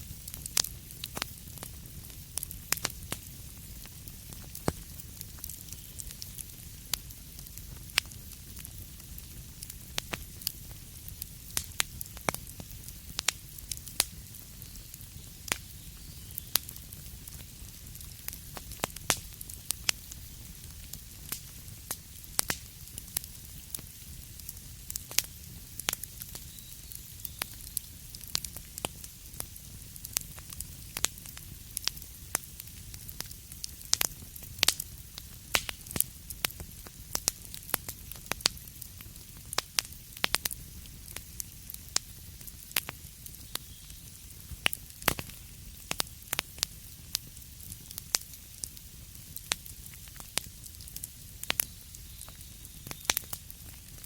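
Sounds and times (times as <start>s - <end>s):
fire crackling and popping: 0.0s - 54.0s
low rumble and hiss of fire: 0.0s - 54.0s.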